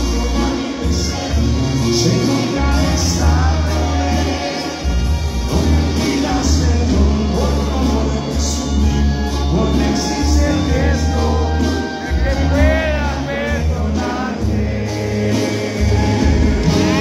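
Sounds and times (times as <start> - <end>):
live band music: 0.0 - 17.0
person singing: 0.0 - 17.0.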